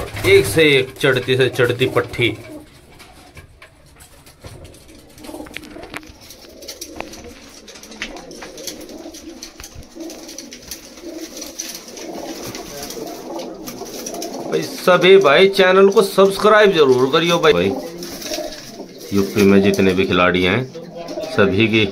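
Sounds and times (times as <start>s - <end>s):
birds clicking on perches: 0.0s - 21.9s
pigeons cooing: 0.0s - 21.9s.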